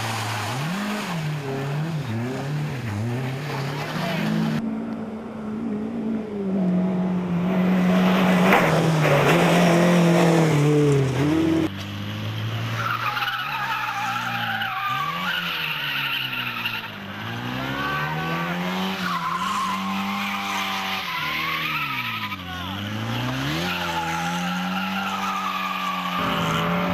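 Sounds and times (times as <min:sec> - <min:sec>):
tyres skidding: 0:00.0 - 0:04.6, 0:06.4 - 0:26.9
rally car engine revving: 0:00.0 - 0:26.9.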